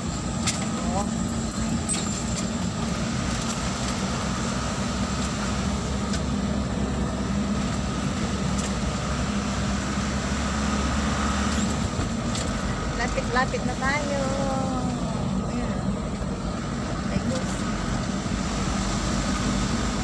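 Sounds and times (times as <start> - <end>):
vehicle engine drone and road noise: 0.0 - 20.0.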